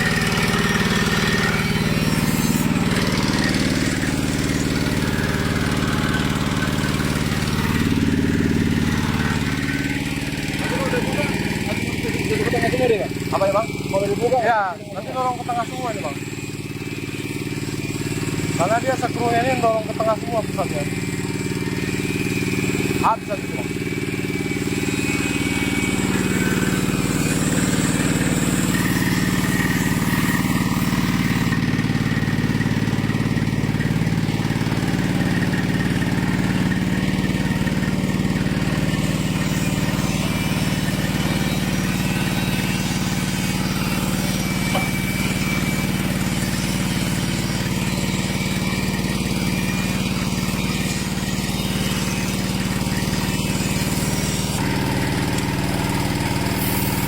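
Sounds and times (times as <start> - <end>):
feed mixer machine hum: 0.0 - 57.0.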